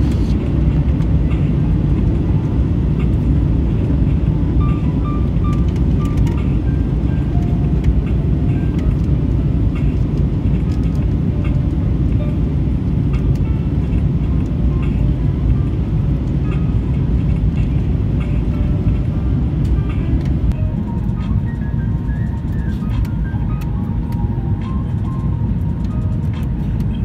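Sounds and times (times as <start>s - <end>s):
airliner cabin engine roar: 0.0s - 27.0s.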